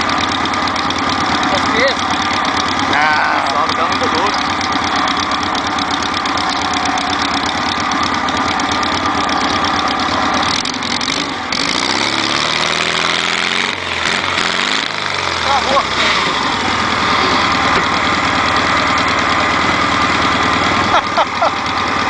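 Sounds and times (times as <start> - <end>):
buggy engine revving: 0.0 - 22.0.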